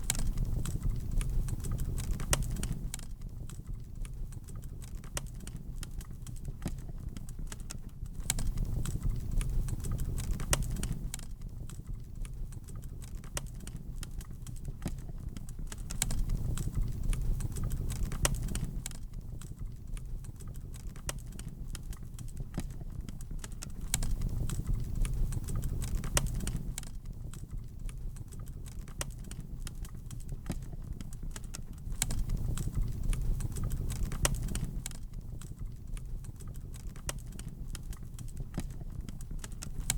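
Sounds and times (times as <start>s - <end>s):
rumble of flames: 0.0s - 39.9s
wood fire crackling: 0.0s - 39.9s.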